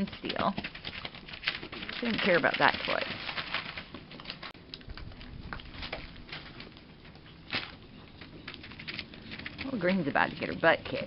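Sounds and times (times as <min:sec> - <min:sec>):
newspaper rustling and crackling: 0:00.2 - 0:11.0.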